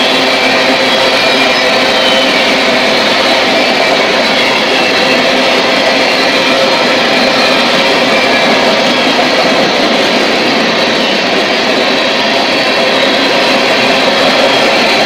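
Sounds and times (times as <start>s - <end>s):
train wheels roaring on rail: 0.0s - 15.0s.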